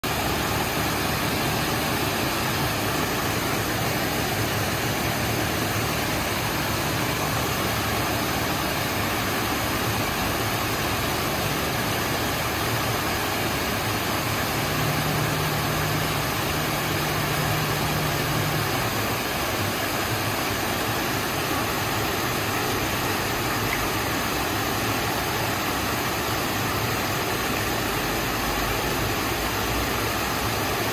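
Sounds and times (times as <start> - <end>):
water rushing over weir: 0.0 - 30.9.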